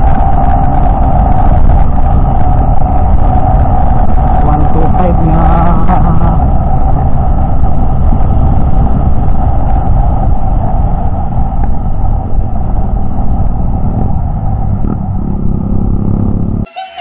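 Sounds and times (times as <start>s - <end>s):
motorcycle engine cruising: 0.0s - 16.7s
wind rushing over microphone: 0.0s - 16.7s.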